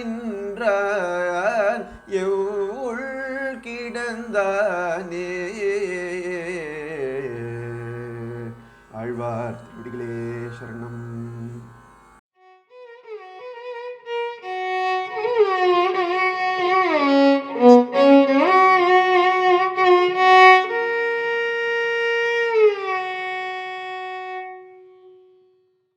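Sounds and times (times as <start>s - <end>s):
solo violin slow melody: 0.0s - 25.3s.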